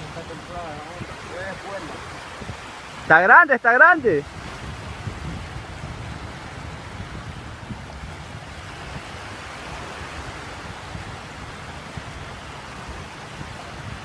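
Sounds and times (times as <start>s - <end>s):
small waves lapping on pebbles: 0.0s - 3.2s, 4.2s - 14.0s
wind rumbling on microphone: 0.0s - 14.0s.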